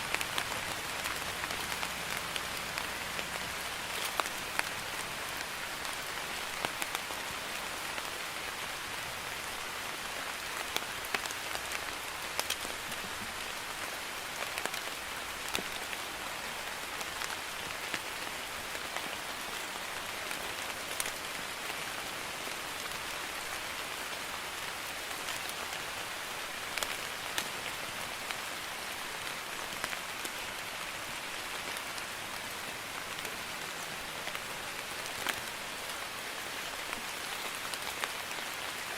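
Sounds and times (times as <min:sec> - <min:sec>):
light rain pattering: 0:00.0 - 0:38.9
raindrops tapping close by: 0:00.0 - 0:38.9.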